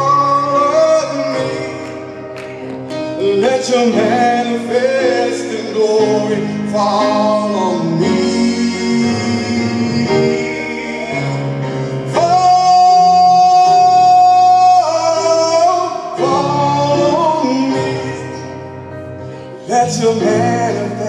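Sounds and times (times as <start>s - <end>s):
electric keyboard: 0.0s - 21.0s
person singing gospel: 0.0s - 21.0s.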